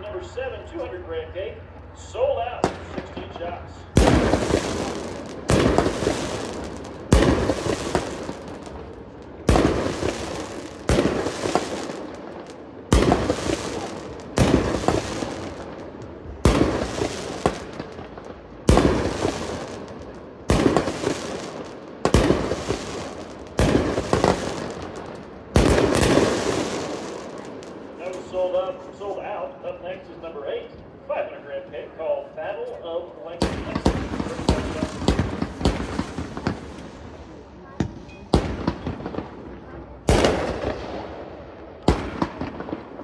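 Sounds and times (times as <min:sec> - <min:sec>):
firework bangs: 0:02.6 - 0:28.7, 0:33.4 - 0:43.0.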